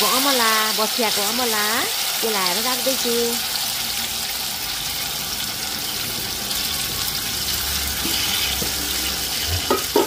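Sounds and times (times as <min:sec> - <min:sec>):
oil sizzling with frying food: 0:00.0 - 0:10.0.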